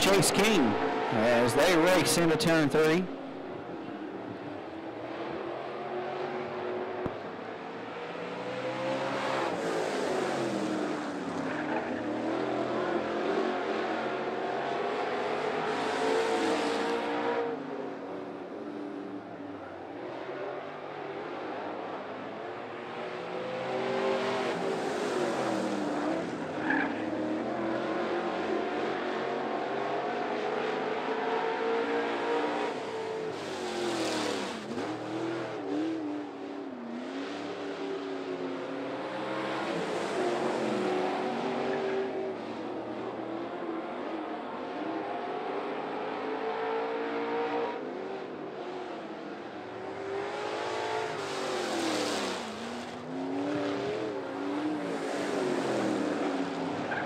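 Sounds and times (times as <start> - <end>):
race car engines racing: 0.0 - 57.0.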